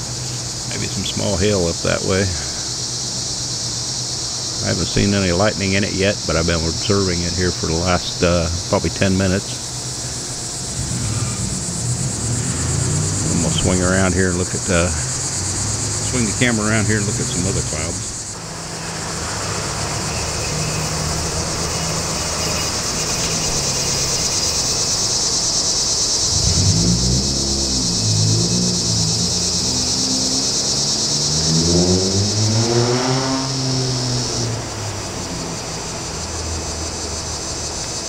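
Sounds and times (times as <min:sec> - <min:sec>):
insect chorus trilling: 0:00.0 - 0:38.0
vehicle engine: 0:00.0 - 0:38.0.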